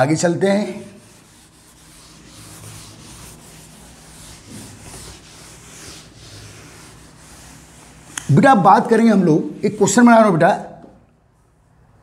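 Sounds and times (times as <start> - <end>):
cloth wiping chalkboard: 0.0 - 11.7.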